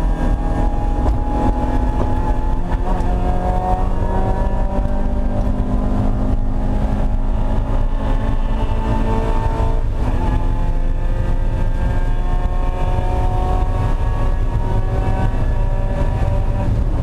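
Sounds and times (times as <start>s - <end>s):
race car engine under hard driving: 0.0s - 17.0s.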